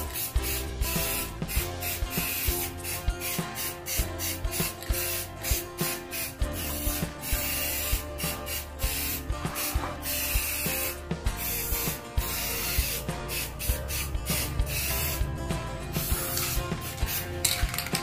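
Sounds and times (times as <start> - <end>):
spray paint can hissing: 0.0 - 18.0.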